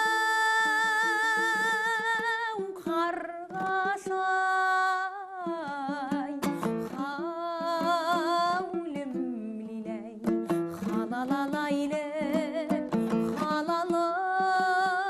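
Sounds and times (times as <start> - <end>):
plucked strings strumming: 0.0 - 15.0
woman singing folk melody: 0.0 - 15.0.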